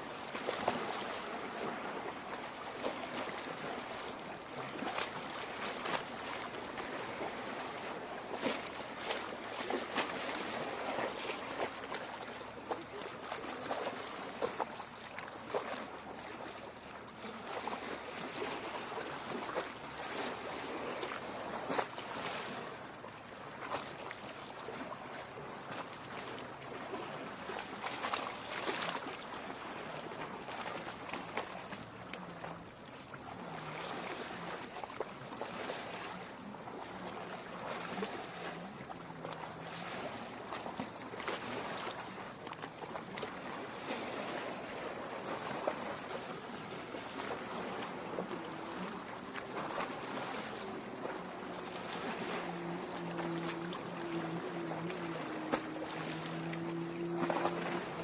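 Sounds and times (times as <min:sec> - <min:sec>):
waves lapping on rocky shore: 0:00.0 - 0:58.0.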